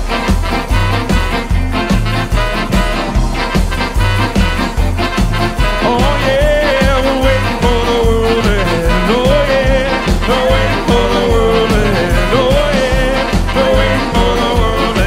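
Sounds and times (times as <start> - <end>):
sliding lead melody: 0.0 - 15.0
steady bass beat: 0.0 - 15.0.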